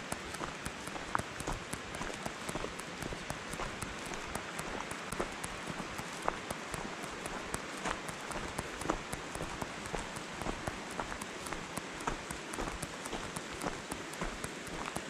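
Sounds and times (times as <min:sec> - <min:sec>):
faint high ticking: 0:00.0 - 0:15.0
footsteps crunching on gravel: 0:00.0 - 0:15.0
steady hissing background: 0:00.0 - 0:15.0.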